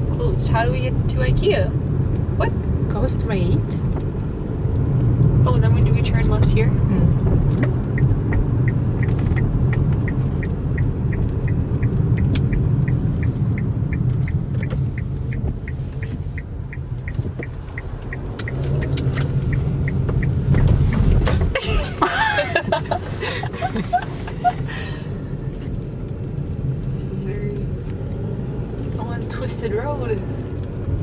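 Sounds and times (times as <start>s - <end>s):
car engine rumble and road noise: 0.0s - 31.0s
turn signal ticking: 0.0s - 31.0s.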